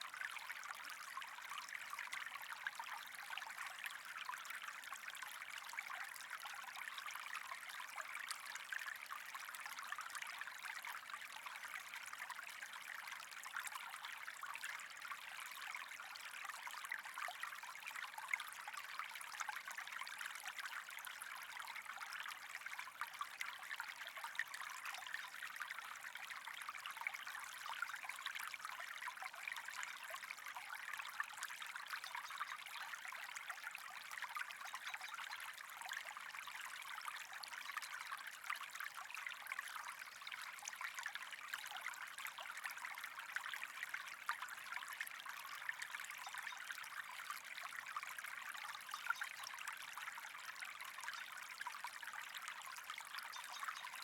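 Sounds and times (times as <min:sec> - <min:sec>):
water trickling with crackles: 0:00.0 - 0:54.0.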